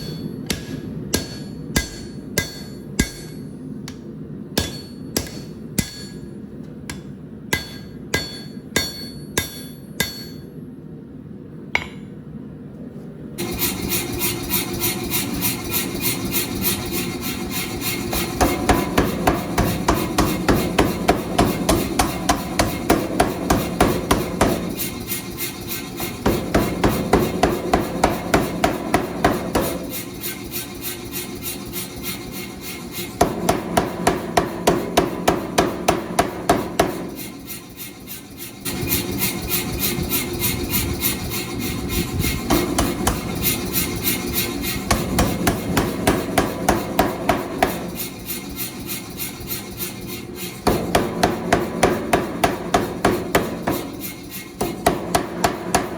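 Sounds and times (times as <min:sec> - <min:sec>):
hammer striking metal: 0:00.0 - 0:04.0, 0:04.6 - 0:06.3, 0:06.9 - 0:10.5, 0:11.8 - 0:12.1, 0:13.4 - 0:55.9
steady background hum: 0:00.0 - 0:55.9.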